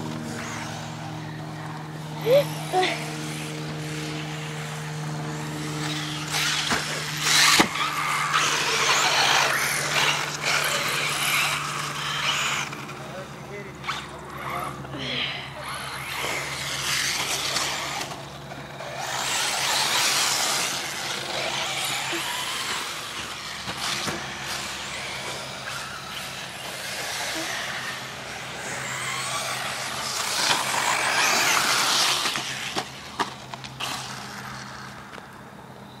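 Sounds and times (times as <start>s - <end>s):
rc buggies whirring: 0.0s - 36.0s.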